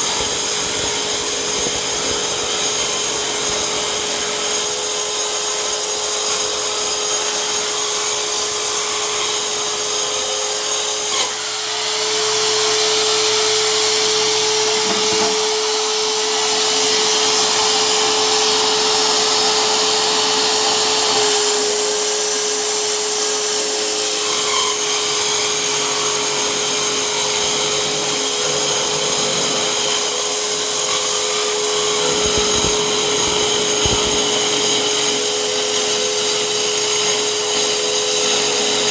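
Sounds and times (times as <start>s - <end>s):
circular saw motor whine: 0.0s - 38.9s.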